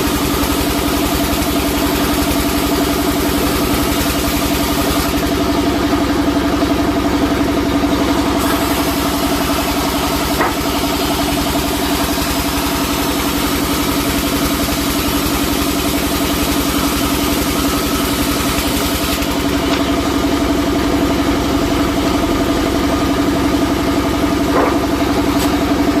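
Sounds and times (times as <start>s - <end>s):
sawmill engine humming: 0.0s - 26.0s.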